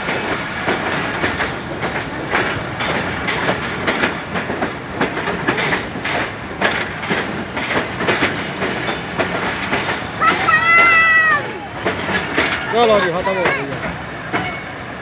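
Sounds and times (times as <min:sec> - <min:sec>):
train rumble: 0:00.0 - 0:15.0
train wheels clattering over rail joints: 0:00.0 - 0:15.0.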